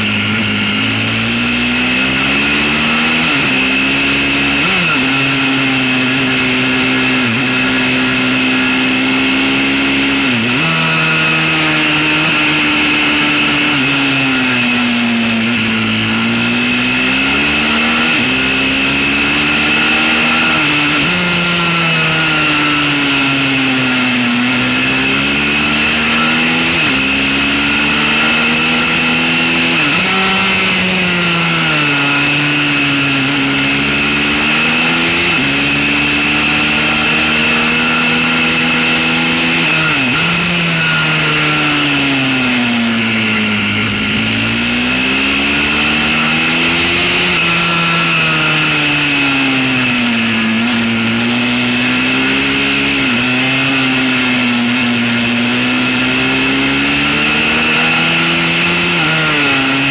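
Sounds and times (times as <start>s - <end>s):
high whine: 0.0s - 54.4s
small motorbike engine revving: 0.0s - 59.9s.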